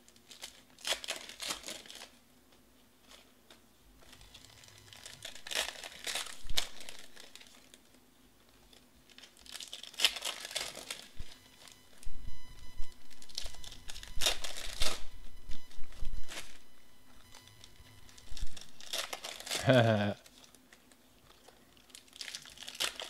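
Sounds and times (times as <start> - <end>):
foil wrappers crinkling and tearing: 0.0 - 2.2, 3.0 - 11.8, 13.1 - 15.1, 15.7 - 16.6, 17.6 - 23.0.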